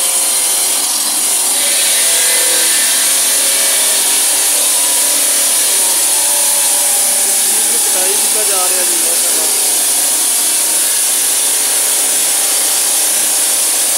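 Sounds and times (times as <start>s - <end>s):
stone saw cutting marble: 0.0s - 13.9s.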